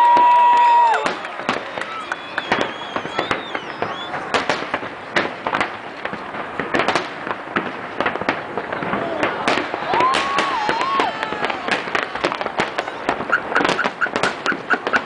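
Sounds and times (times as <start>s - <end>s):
fireworks bangs and crackling pops: 0.0s - 15.0s.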